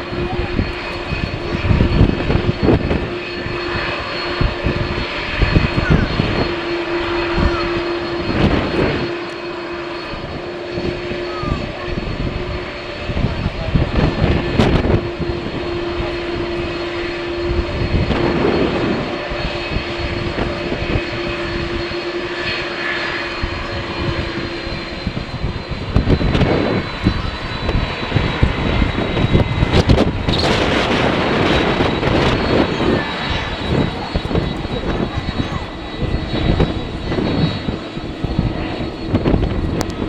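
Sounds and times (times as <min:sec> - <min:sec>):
jet engines high whine: 0:00.0 - 0:40.0
wind buffeting microphone: 0:00.0 - 0:40.0.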